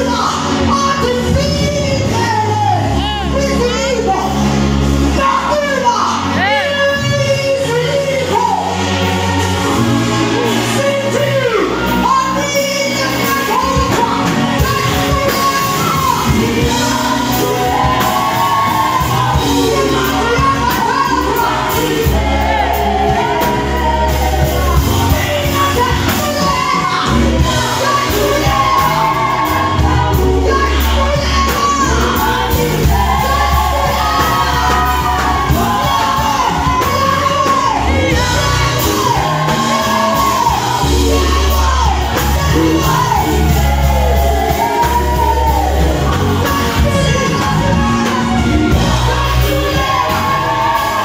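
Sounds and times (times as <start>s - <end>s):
instrumental backing: 0.0s - 51.0s
vocal group singing: 0.0s - 51.0s.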